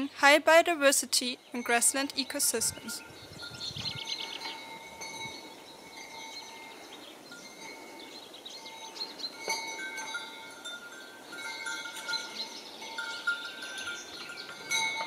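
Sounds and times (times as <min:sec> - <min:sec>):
sheep bells ringing: 0:01.3 - 0:15.0.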